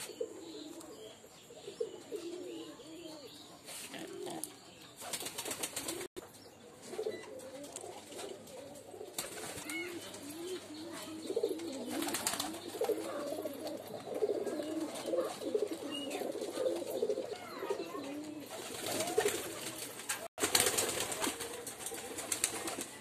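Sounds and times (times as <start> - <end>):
pigeons cooing: 0.0 - 6.1, 6.7 - 23.0.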